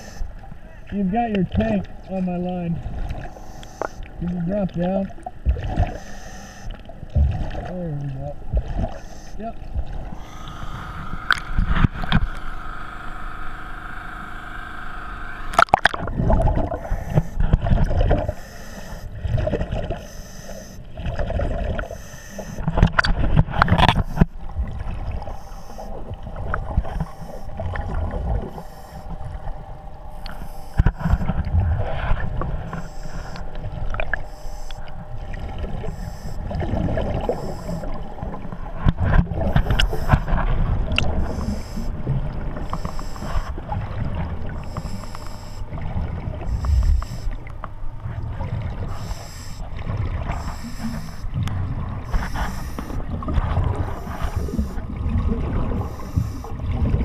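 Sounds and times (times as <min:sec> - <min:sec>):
exhaled air bubbling underwater: 0:00.0 - 0:57.0
steady machine hum: 0:00.0 - 0:57.0.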